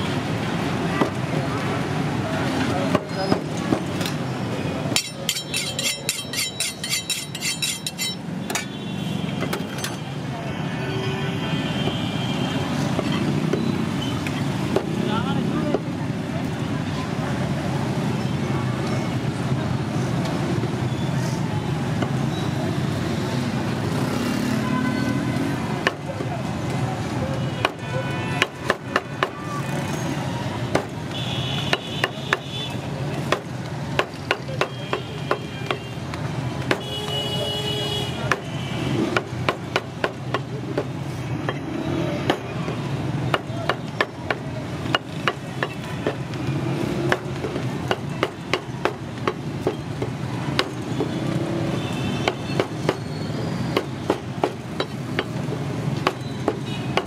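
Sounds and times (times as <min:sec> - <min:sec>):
street noise: 0:00.0 - 0:57.0.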